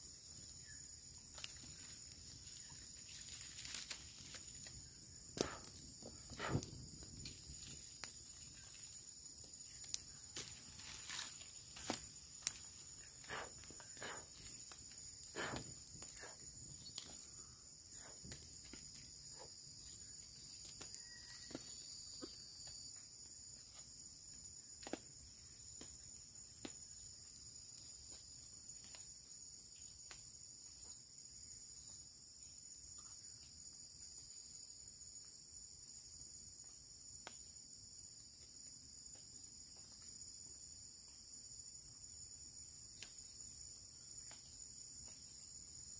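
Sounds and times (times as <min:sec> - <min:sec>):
campfire crackling: 0:00.0 - 0:45.9
crickets chirping: 0:00.0 - 0:45.9.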